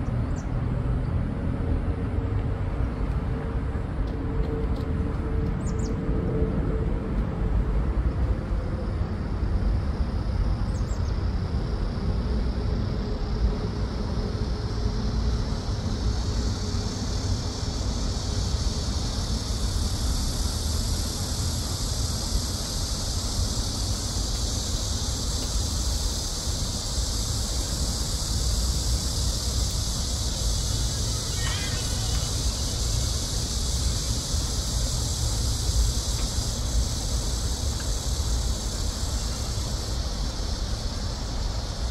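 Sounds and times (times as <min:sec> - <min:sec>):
insects chorus: 0:00.0 - 0:41.9.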